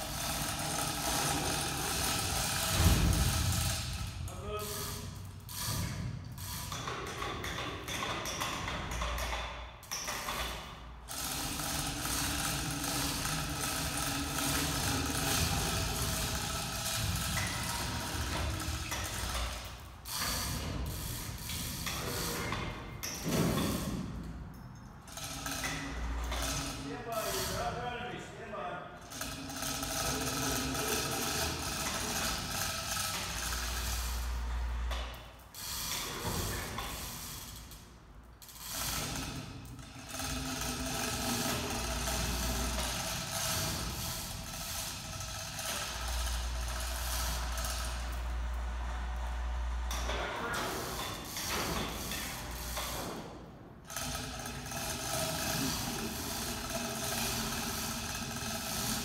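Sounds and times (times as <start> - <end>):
electric chain hoist motor: 0.0 - 28.1, 29.0 - 59.0.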